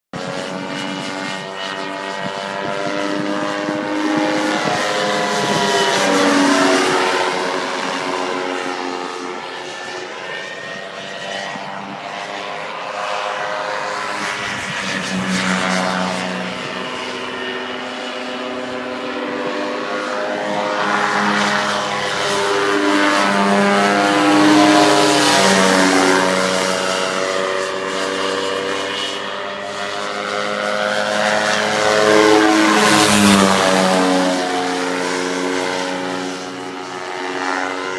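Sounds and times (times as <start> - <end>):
paramotor engine and propeller droning: 0.1 - 37.9.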